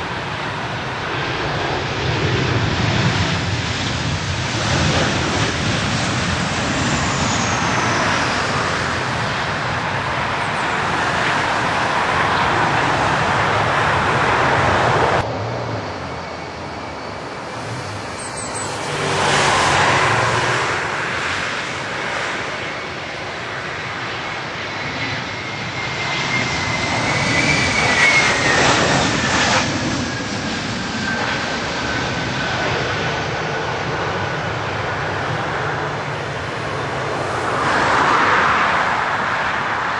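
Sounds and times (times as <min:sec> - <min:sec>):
aircraft engine whine passing: 0:00.0 - 0:39.9
airliner engines roaring: 0:00.0 - 0:39.9.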